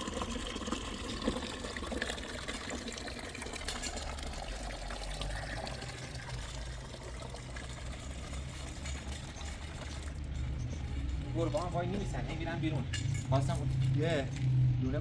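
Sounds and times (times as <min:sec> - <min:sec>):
water pouring and trickling: 0:00.0 - 0:14.8.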